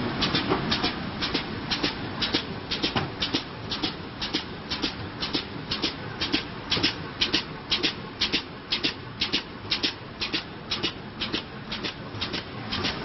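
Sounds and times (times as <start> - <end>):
sharp hissing clicks: 0.2 - 13.0.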